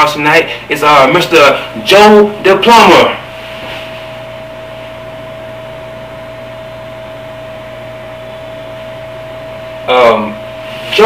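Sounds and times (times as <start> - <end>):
background hum and hiss: 0.0 - 11.0
constant whining tone: 0.0 - 11.0.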